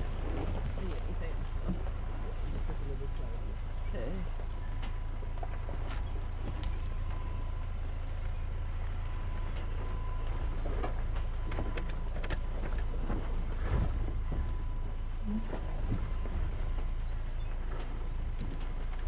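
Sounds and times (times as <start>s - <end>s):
truck bumping over rocks: 0.0s - 19.0s
truck engine rumble: 0.0s - 19.0s.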